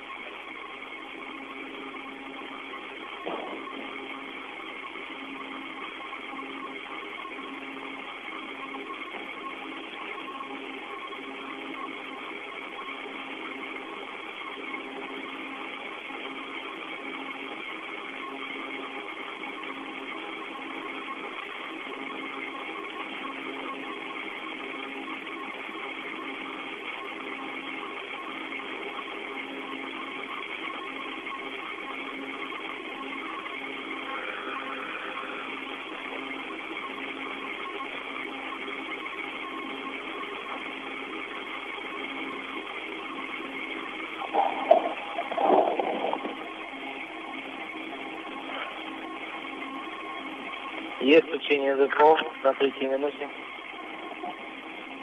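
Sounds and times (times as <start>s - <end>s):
faint steady tones: 0.0s - 55.0s
radio hiss and hum: 0.0s - 55.0s.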